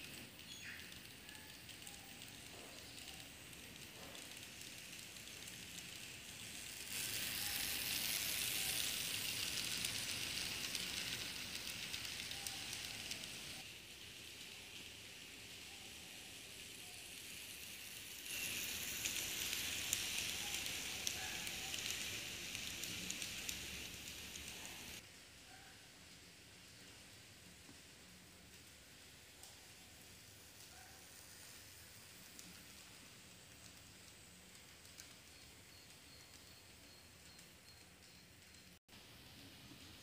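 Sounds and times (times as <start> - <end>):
model train running on track: 0.0 - 25.4, 26.0 - 40.0.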